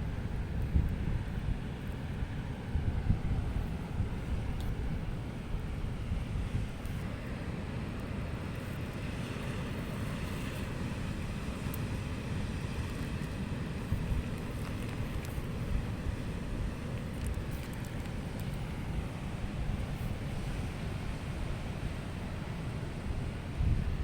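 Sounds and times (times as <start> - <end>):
wind buffeting microphone: 0.0 - 7.2, 10.8 - 24.0.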